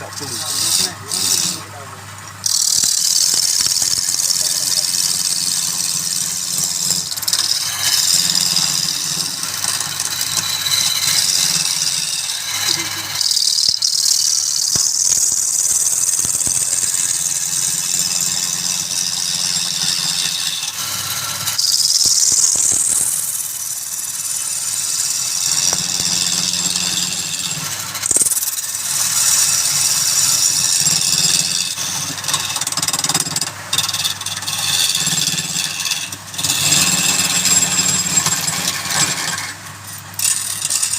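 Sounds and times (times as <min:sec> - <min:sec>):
turning tool scraping spinning wood: 0:00.0 - 0:01.8, 0:02.4 - 0:40.9
lathe motor hum: 0:00.0 - 0:33.1, 0:33.7 - 0:40.9.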